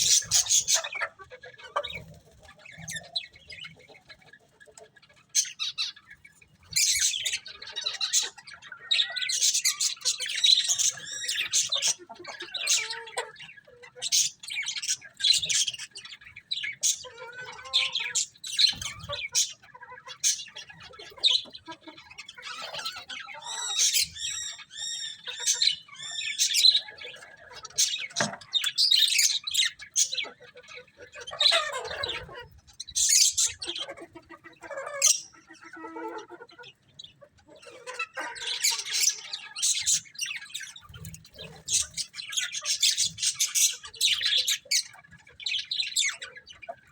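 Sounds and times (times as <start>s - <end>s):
budgerigars chirping and squawking: 0.0s - 46.9s.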